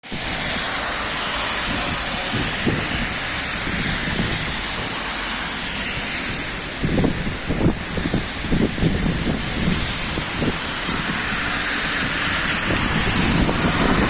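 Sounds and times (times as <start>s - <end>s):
steady rain: 0.0s - 14.0s
wind rumble on microphone: 0.0s - 14.0s.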